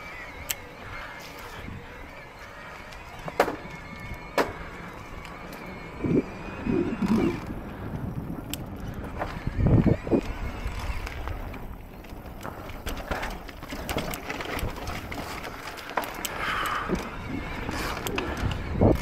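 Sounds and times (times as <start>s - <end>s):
bike knocking and clattering: 0.0s - 6.3s, 7.0s - 19.0s
tyres on dirt: 0.0s - 19.0s.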